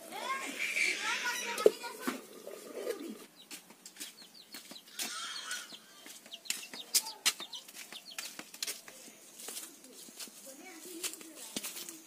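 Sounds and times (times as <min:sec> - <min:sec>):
chickens clucking: 0:00.0 - 0:09.8.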